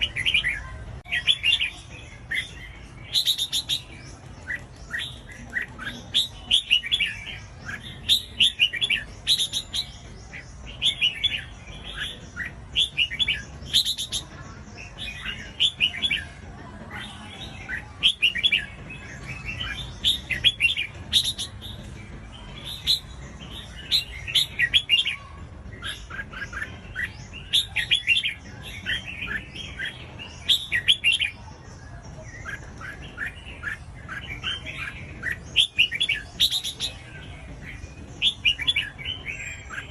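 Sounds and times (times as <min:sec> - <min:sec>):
bird chirpy song: 0:00.0 - 0:39.9.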